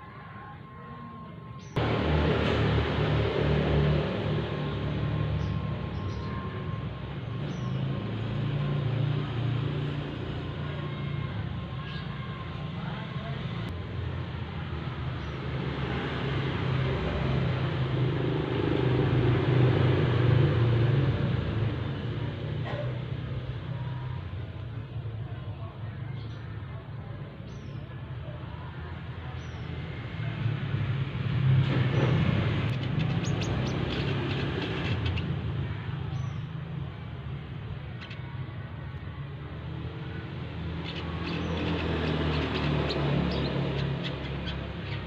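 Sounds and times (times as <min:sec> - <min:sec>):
steady low traffic rumble: 0:00.0 - 0:45.0
vehicle passing on road: 0:01.6 - 0:24.6, 0:29.0 - 0:37.9, 0:39.2 - 0:45.0.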